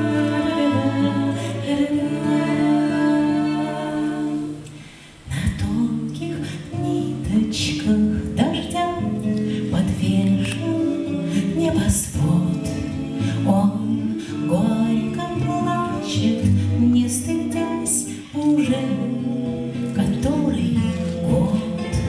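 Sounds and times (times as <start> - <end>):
acoustic guitar strumming: 0.0 - 22.0
vocal harmony: 0.0 - 22.0
woman singing: 0.0 - 22.0.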